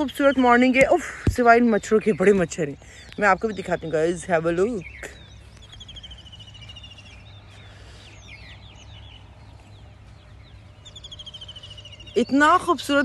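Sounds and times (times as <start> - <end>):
bird chirps: 0.0 - 13.0
bird trilling: 2.0 - 13.0.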